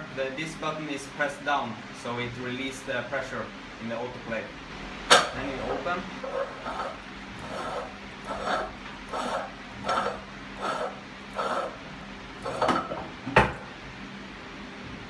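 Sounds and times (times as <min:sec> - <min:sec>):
faint machine hum: 0:00.0 - 0:15.0.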